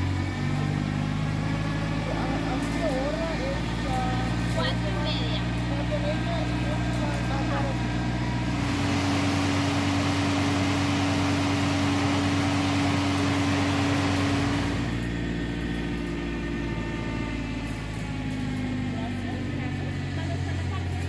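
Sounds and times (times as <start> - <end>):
car engine driving winch humming: 0.0 - 21.0.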